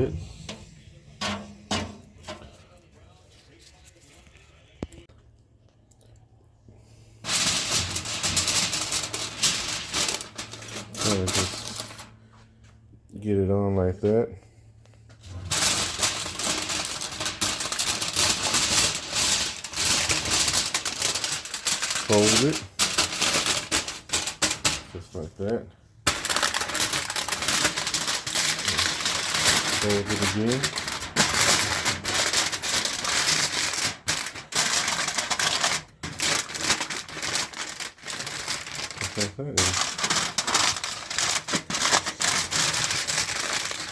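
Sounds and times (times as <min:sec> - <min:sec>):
aluminium foil crinkling: 0:00.0 - 0:05.0, 0:07.2 - 0:12.6, 0:15.2 - 0:43.9.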